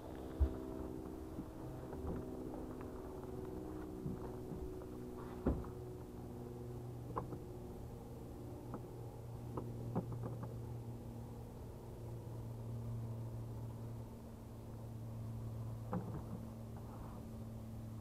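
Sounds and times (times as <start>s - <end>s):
steady engine-like hum: 0.0s - 18.0s.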